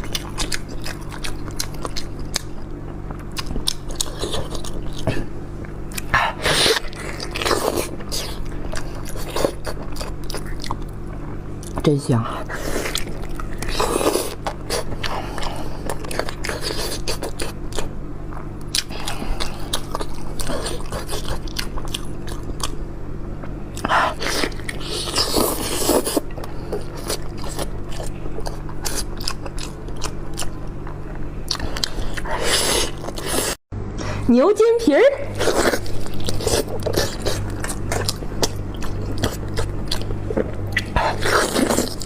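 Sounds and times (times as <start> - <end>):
chewing and gnawing on bone: 0.0 - 33.6, 35.3 - 42.0
steady low hum: 0.0 - 42.0.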